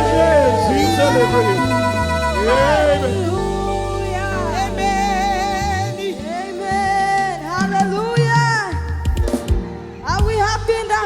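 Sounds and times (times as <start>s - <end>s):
keyboard and bass chords: 0.0s - 11.0s
person singing with vibrato: 0.0s - 11.0s.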